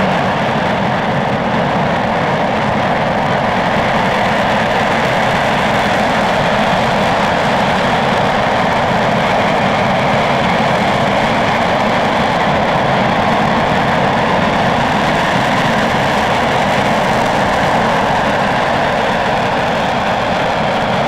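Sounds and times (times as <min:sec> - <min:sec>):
rocket engine exhaust roar: 0:00.0 - 0:21.0.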